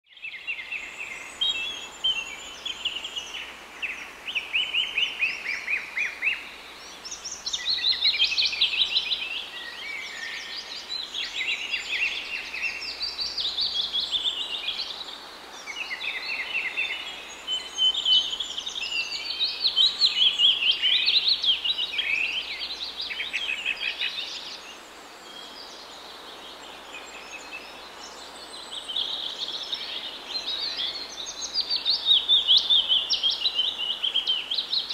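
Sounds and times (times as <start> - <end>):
birds singing and chirping: 0.1 - 34.9.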